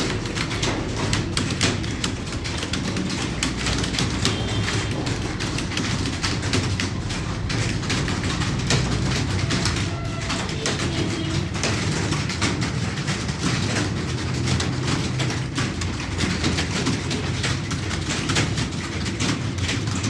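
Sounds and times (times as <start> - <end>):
computer keyboards clattering: 0.0 - 20.0.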